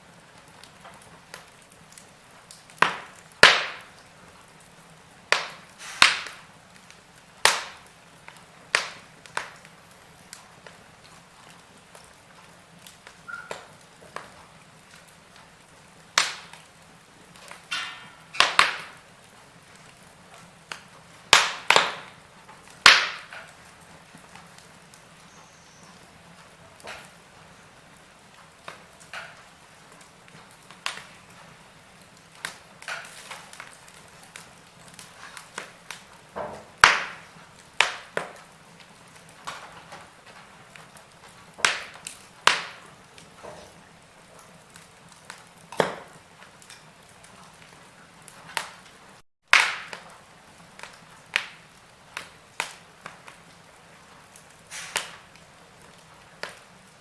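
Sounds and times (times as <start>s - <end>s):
faint steady hiss: 0.0s - 49.2s
wood fire crackling: 0.0s - 57.0s.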